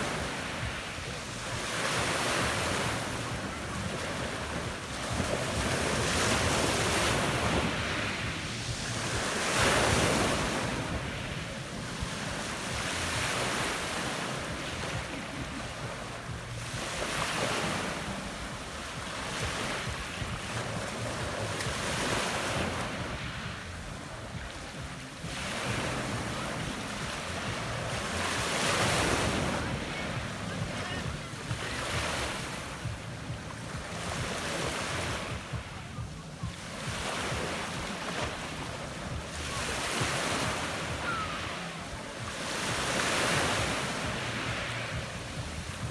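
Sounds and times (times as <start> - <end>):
waves breaking on pebble beach: 0.0 - 45.9.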